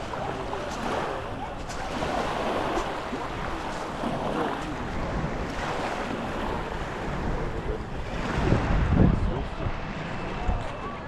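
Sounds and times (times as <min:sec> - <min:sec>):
waves washing onto shore: 0:00.0 - 0:11.0
wind buffeting microphone: 0:00.0 - 0:11.0.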